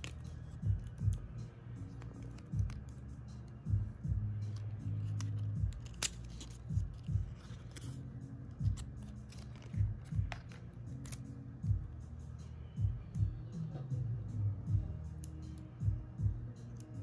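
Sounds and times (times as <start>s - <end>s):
soft music with pulsing beat: 0.0s - 17.0s.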